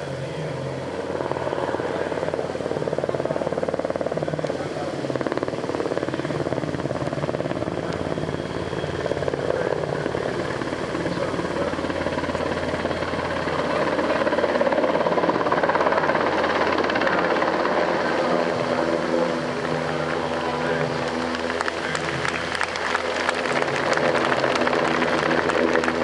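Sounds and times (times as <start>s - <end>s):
helicopter engine noise: 0.0s - 26.0s
helicopter rotor chopping: 0.0s - 26.0s.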